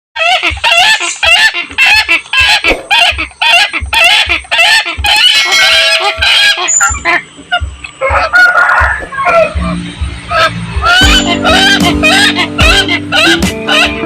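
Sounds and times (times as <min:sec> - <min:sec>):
hornbill honking calls: 0:00.2 - 0:14.0.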